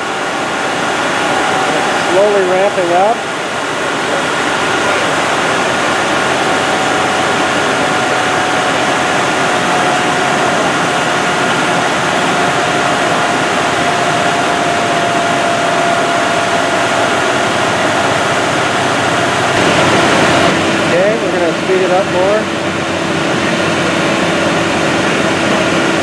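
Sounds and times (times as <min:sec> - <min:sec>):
faint whine: 0:00.0 - 0:26.0
fan air rush and machinery: 0:00.0 - 0:26.0.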